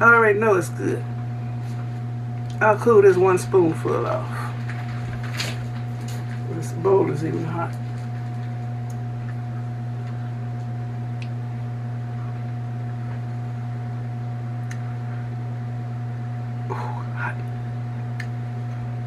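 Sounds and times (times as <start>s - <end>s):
kitchen appliance humming: 0.0s - 19.0s.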